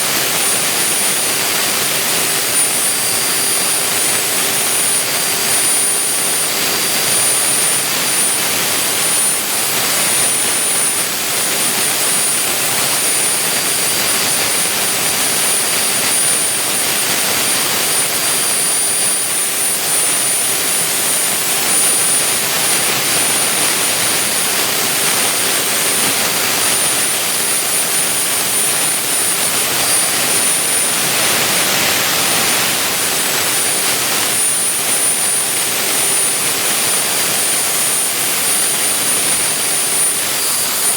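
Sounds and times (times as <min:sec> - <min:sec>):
high steady whine: 0:00.0 - 0:40.9
milling machine cutting: 0:00.0 - 0:40.9.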